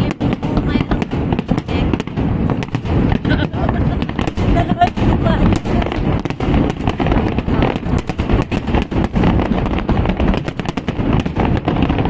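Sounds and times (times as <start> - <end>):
fireworks bursting with sharp bangs: 0.0 - 12.0
low rumble: 0.0 - 12.0.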